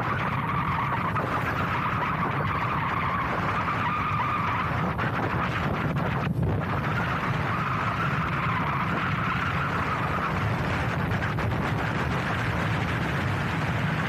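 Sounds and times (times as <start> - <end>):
road noise: 0.0 - 14.0
wind noise: 0.0 - 14.0.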